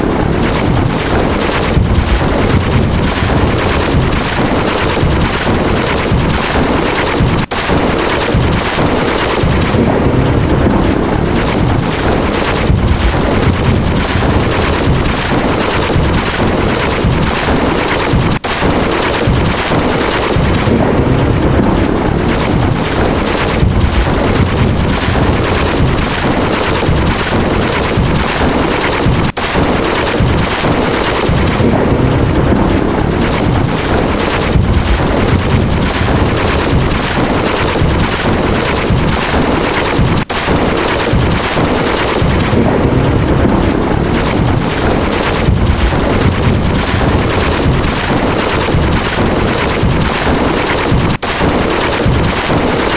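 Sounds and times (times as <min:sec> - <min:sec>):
thunder and lightning crackling: 0:00.0 - 0:52.9.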